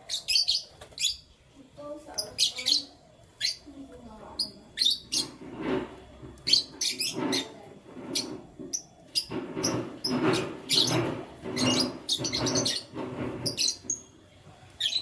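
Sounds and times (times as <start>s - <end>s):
canaries chirping: 0.0s - 15.0s
wings rustling and fluttering: 0.0s - 15.0s.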